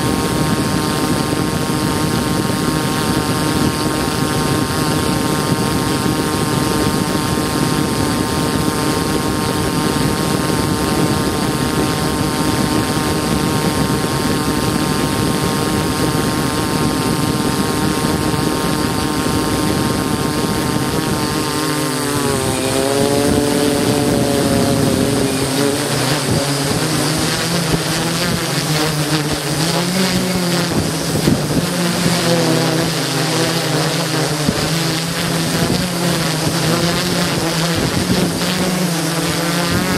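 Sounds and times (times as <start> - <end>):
drone motors and propellers whining: 0.0 - 39.9.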